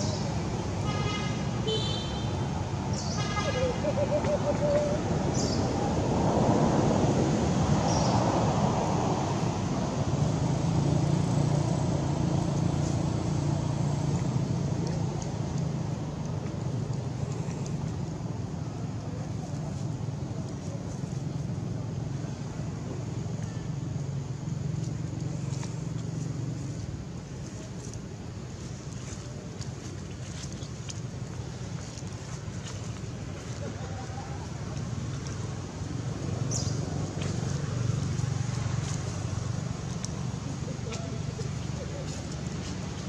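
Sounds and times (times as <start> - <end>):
vehicle engine rumbling: 0.0 - 43.0.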